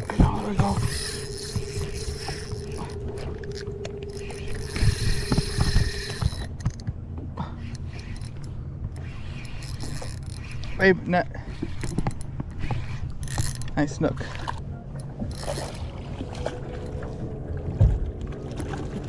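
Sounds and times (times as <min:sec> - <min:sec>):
fishing reel gears whirring: 0:00.0 - 0:14.4, 0:15.0 - 0:17.2.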